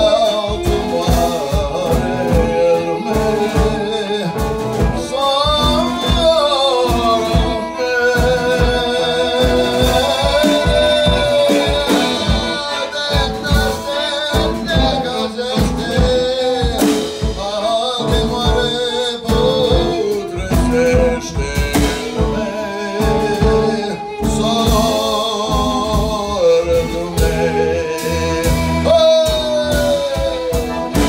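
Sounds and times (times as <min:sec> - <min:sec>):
accordion: 0:00.0 - 0:31.0
drum kit beat: 0:00.0 - 0:31.0
man singing into a microphone: 0:00.0 - 0:31.0
violin: 0:00.0 - 0:31.0.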